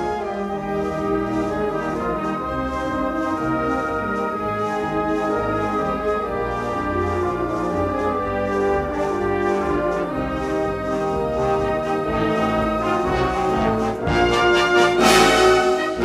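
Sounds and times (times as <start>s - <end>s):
brass band playing held chords: 0.0s - 16.0s.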